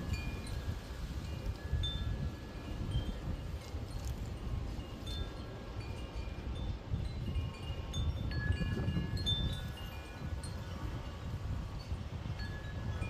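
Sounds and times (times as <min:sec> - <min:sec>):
wind chimes ringing: 0:00.0 - 0:13.0
wind rumble on microphone: 0:00.0 - 0:13.0.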